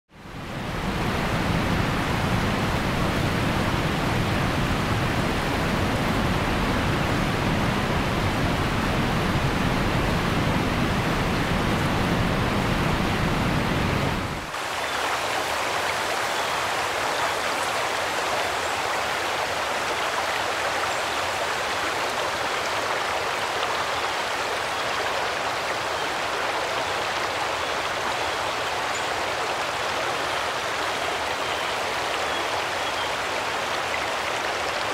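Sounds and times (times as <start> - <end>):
heavy rain pouring: 0.3 - 34.9.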